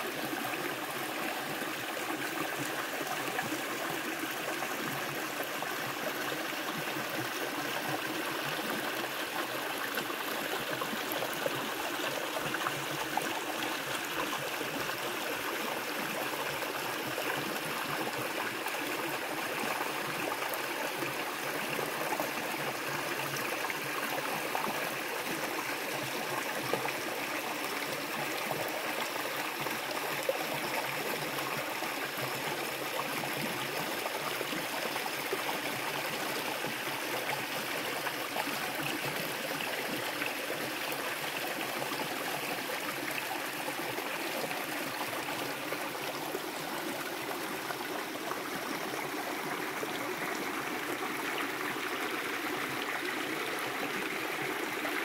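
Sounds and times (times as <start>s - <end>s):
stream babbling over rocks: 0.0s - 55.0s.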